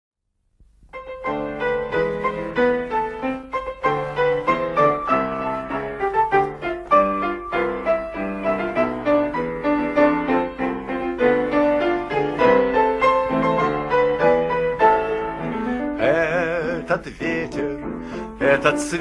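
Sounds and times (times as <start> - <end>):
piano melody over chords: 0.9 - 19.0.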